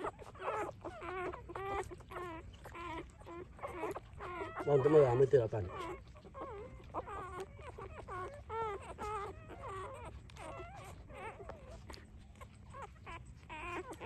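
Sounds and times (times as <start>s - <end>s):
puppies squeaking and whimpering: 0.0s - 14.0s.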